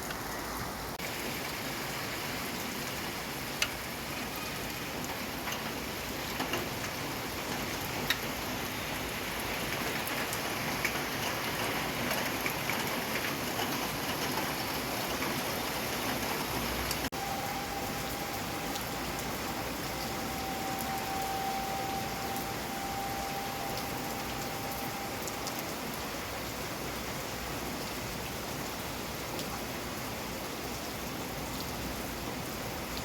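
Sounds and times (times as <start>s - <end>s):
raindrops dripping and tapping: 0.0s - 33.0s
steady rain hiss: 0.0s - 33.0s.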